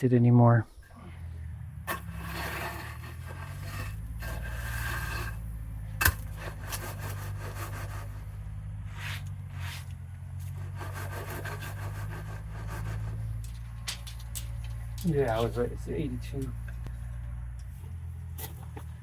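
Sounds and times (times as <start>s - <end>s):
steady low hum: 0.0s - 19.0s
object scraping against wood: 1.8s - 17.3s.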